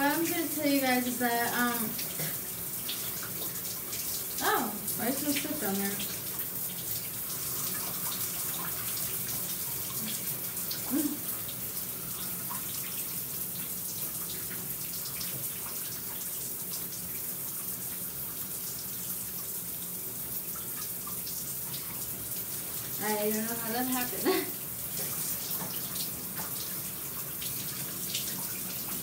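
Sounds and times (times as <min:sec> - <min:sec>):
shower spray splashing: 0:00.0 - 0:29.0.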